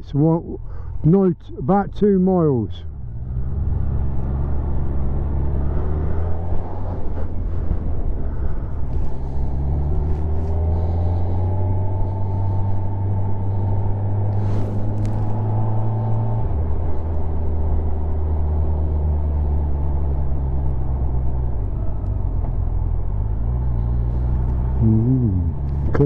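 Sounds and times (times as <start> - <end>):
motorcycle engine running: 3.9 - 26.0.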